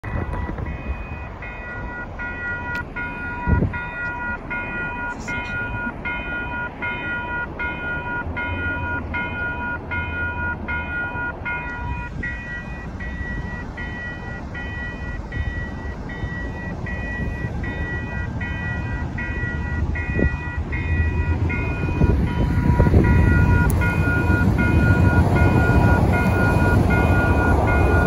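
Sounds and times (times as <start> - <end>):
level crossing bells ringing: 0.0 - 28.0
steady high tone: 0.0 - 28.0.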